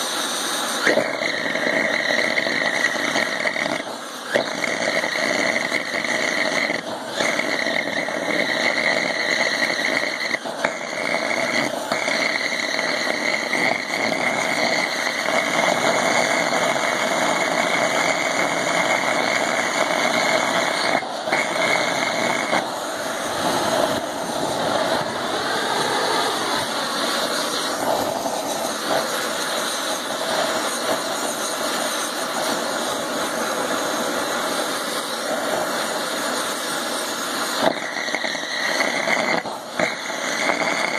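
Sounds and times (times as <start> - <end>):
burner flame roaring: 0.0 - 40.9
high steady hiss: 0.0 - 40.9.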